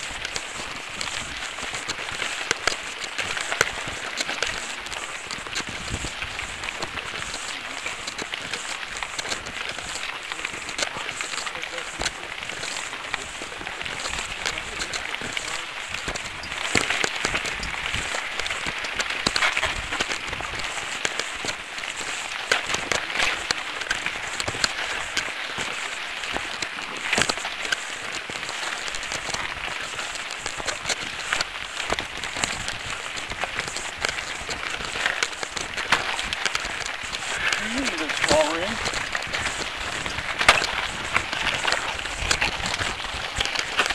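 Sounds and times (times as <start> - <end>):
bike tyres crunching on gravel: 0.0 - 43.9
stones clicking and bike rattling: 0.0 - 43.9.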